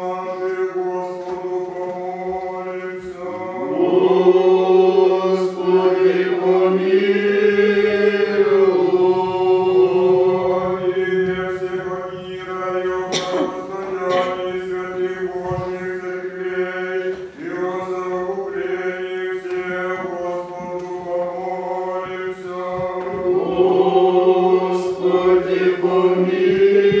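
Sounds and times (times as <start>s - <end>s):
church choir chanting: 0.0s - 27.0s.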